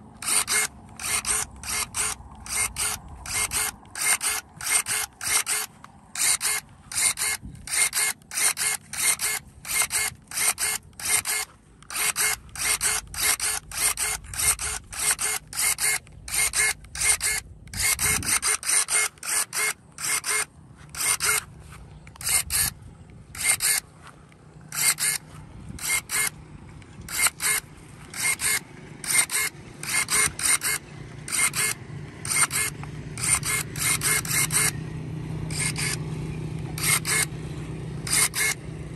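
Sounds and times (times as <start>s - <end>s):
pruning shears motor whirring: 0.0s - 38.9s.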